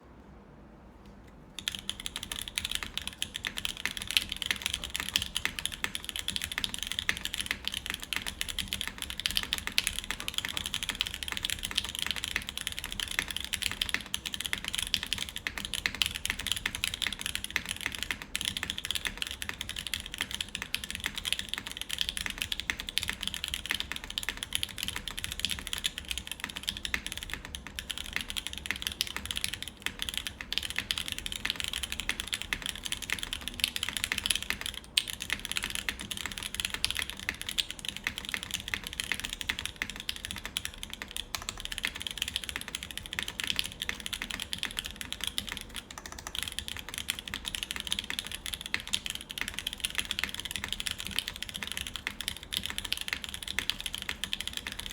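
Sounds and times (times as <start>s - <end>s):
fast typing on mechanical keyboard: 1.6s - 54.9s.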